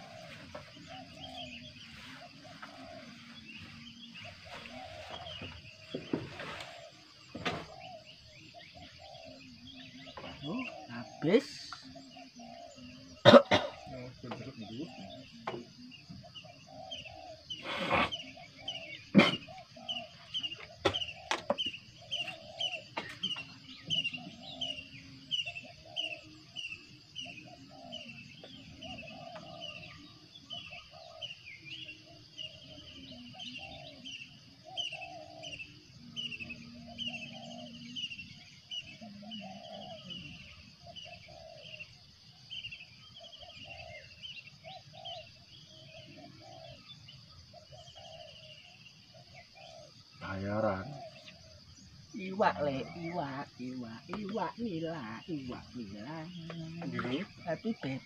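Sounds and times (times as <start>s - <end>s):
birds chirping: 0.0s - 58.0s
lower repeated bird call: 0.0s - 58.0s.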